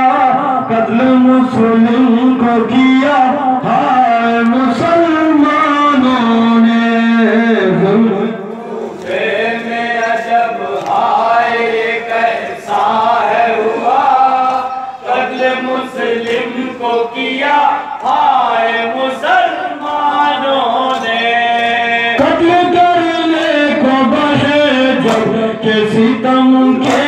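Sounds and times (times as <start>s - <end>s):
men chanting a lament: 0.0s - 27.0s.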